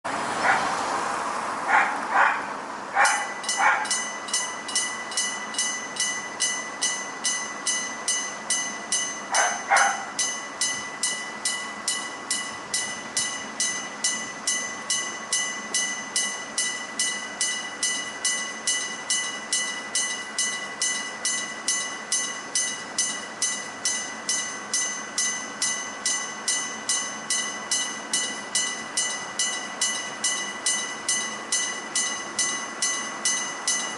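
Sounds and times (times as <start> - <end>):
level crossing bell ringing: 3.0 - 33.9.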